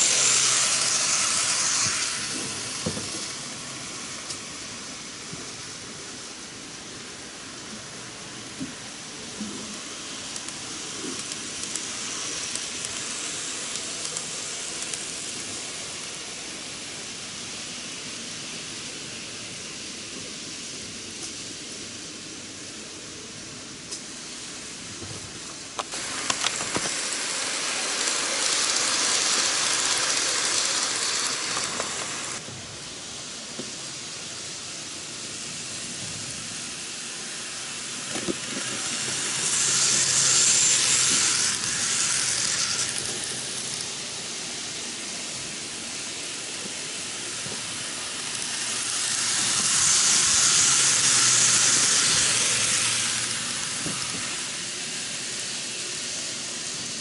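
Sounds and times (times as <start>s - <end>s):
wheels clicking over rail joints: 0.0s - 17.0s, 23.8s - 57.0s
model trains hissing and rattling: 0.0s - 57.0s.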